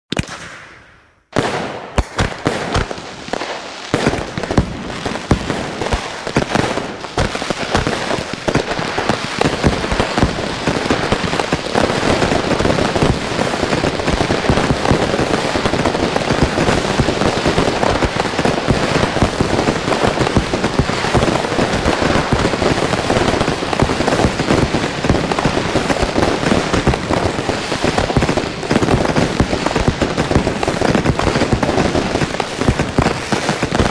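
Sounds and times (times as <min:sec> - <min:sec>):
fireworks bangs and crackling: 0:00.1 - 0:33.9.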